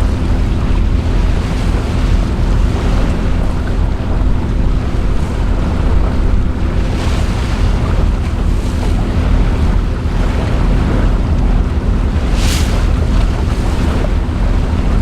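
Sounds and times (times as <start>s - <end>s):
boat engine low rumble: 0.0s - 15.0s
water rushing along hull: 0.0s - 15.0s
wind buffeting microphone: 0.0s - 15.0s.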